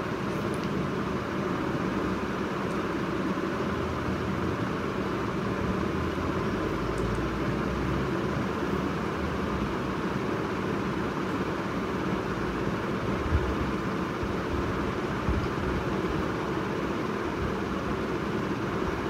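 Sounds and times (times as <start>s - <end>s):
room noise hiss and hum: 0.0s - 19.0s.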